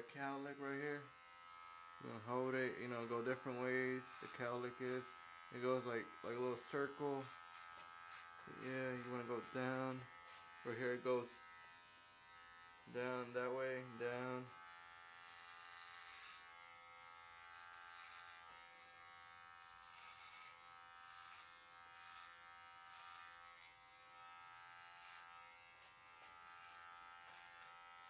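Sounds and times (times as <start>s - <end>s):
electric hair clippers buzzing: 0.0s - 28.0s.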